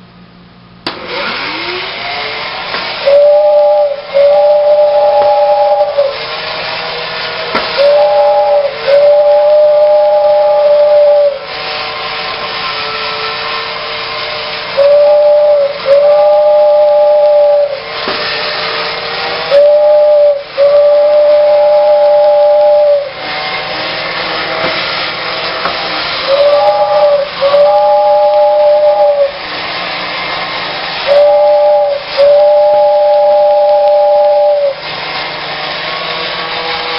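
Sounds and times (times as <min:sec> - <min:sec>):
toy train motor whirring: 0:01.1 - 0:36.9
toy train whistle: 0:01.2 - 0:36.9.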